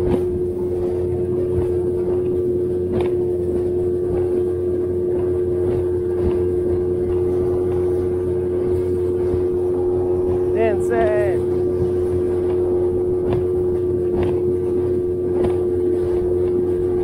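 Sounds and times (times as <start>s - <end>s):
outboard motor droning: 0.0s - 17.0s
water splashing against hull: 0.0s - 17.0s.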